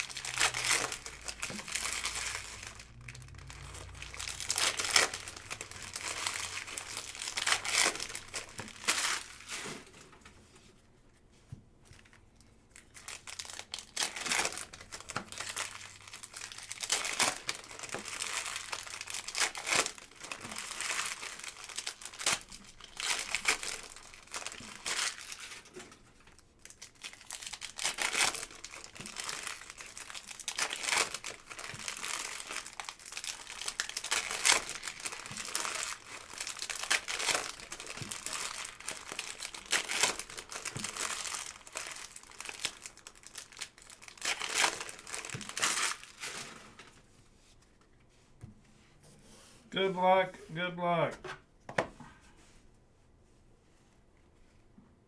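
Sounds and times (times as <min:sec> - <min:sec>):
plastic wrappers crinkling and tearing: 0:00.0 - 0:10.3, 0:11.8 - 0:47.1.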